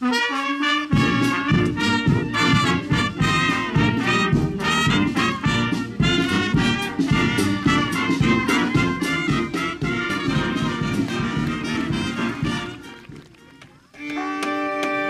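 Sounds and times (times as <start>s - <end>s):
brass band playing: 0.0s - 15.0s
trumpets and trombones: 0.0s - 15.0s.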